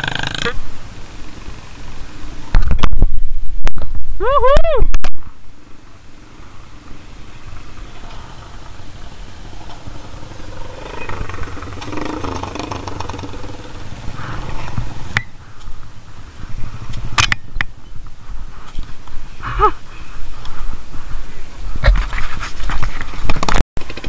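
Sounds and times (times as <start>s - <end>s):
motorcycles running slowly: 0.0s - 2.8s, 5.5s - 22.0s, 22.9s - 24.0s.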